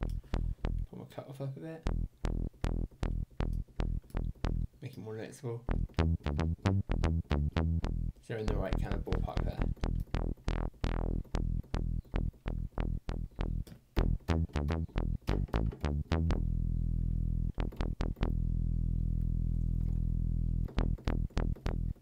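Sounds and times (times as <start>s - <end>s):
plucked synthesizer bass notes: 0.0s - 0.9s, 1.8s - 4.8s, 5.7s - 22.0s.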